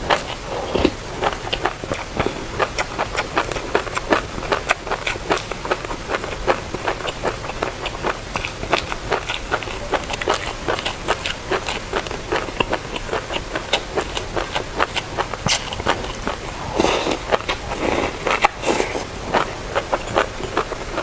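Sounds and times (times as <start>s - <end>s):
mouth clicks and crackles: 0.0s - 21.0s
wet chewing and crunching: 0.0s - 21.0s.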